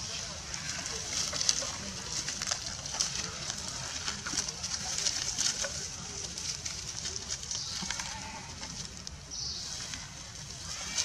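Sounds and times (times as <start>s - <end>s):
monkeys scuffling on ground: 0.0s - 11.0s.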